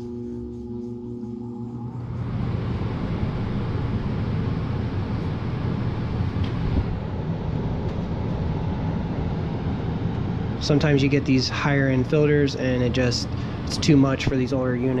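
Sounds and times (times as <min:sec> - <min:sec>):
furnace blower air rushing: 0:00.0 - 0:15.0
low motor hum: 0:00.0 - 0:15.0.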